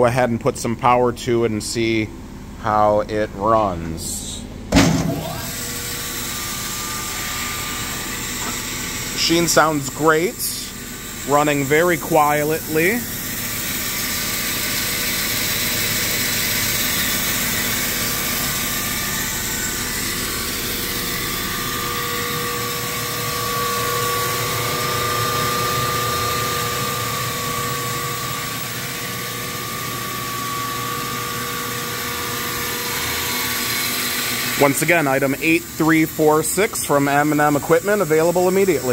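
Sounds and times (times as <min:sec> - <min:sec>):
thin steady whine: 0:00.0 - 0:38.9
band saw motor hum: 0:01.8 - 0:38.9.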